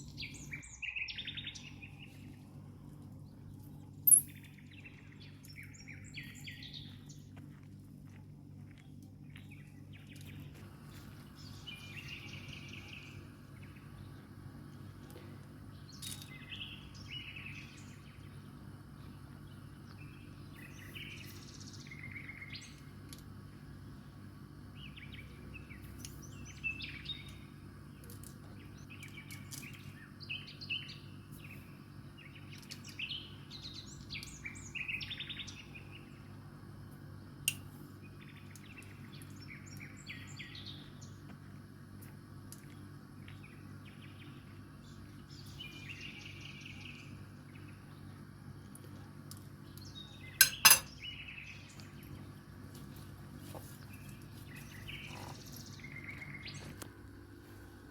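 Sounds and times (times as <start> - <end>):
small birds chirping: 0.0 - 7.6, 8.7 - 57.0
steady low hum: 0.0 - 57.9.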